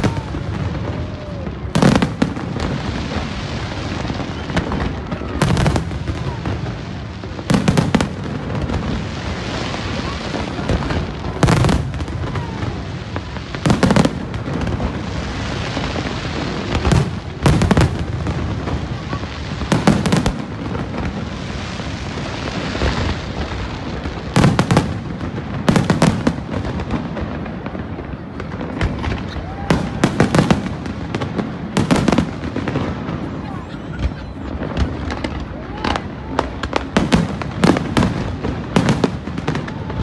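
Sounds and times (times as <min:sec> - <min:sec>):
continuous background din: 0:00.0 - 0:40.0
fireworks bangs: 0:00.0 - 0:40.0.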